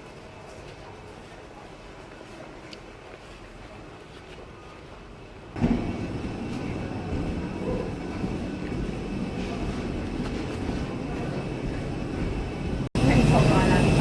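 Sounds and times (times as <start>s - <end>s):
airplane cabin hum and hiss: 0.0s - 14.0s.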